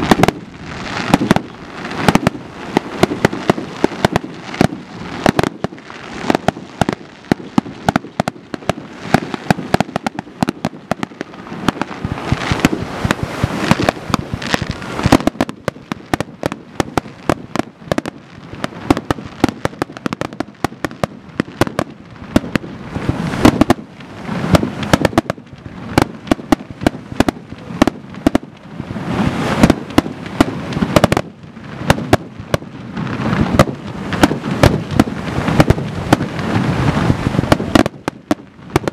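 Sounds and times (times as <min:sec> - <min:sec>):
fireworks bursting: 0:00.0 - 0:38.9.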